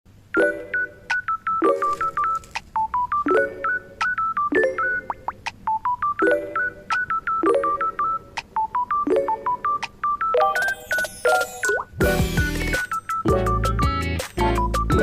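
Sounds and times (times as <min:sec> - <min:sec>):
bouncy beeping tune: 0:00.3 - 0:15.0.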